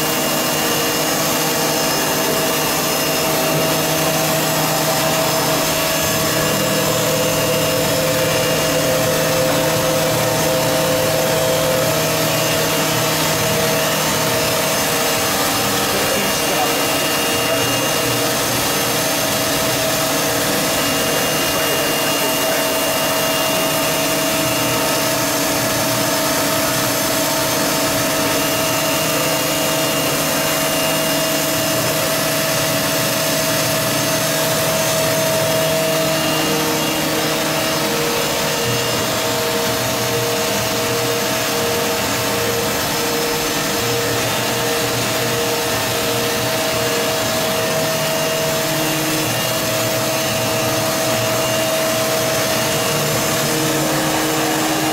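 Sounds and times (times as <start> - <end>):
machining center whirring: 0.0 - 54.9
pulsing tone: 0.0 - 54.9.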